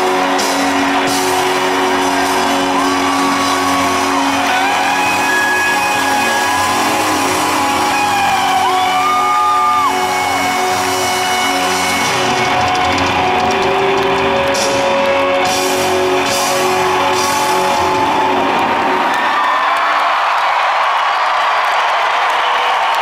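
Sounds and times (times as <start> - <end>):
live rock band: 0.0 - 19.1.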